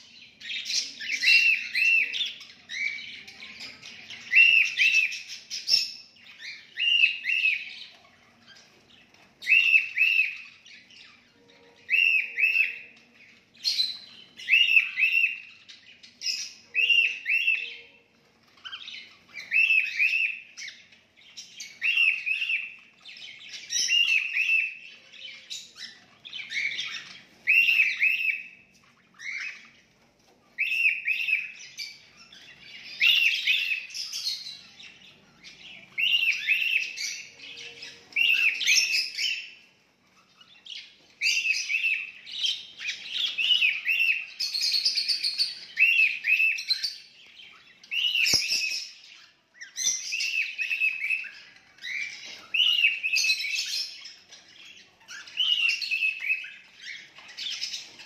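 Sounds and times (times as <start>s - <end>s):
budgerigars chirping: 0.2s - 30.0s, 30.6s - 58.0s.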